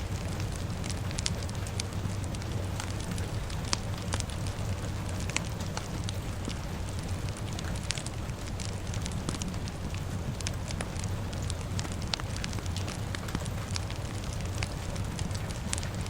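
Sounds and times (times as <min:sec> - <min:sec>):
fire crackling and popping: 0:00.0 - 0:16.0
rain hissing: 0:00.0 - 0:16.0.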